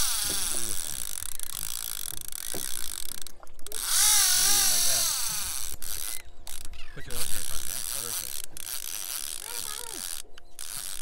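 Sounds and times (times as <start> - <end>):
fishing reel ratcheting: 0.0 - 11.0
line running off reel whine: 0.0 - 11.0.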